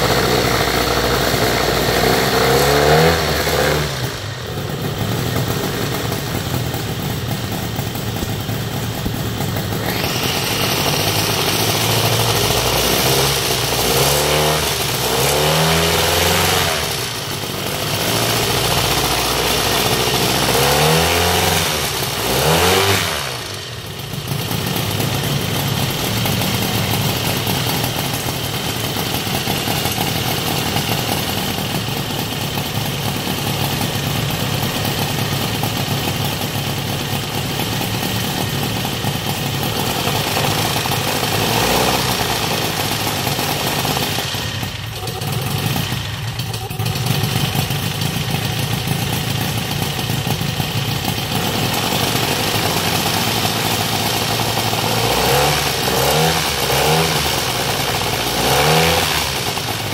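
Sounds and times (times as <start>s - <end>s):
aircraft engine running: 0.0s - 15.4s, 16.1s - 54.9s.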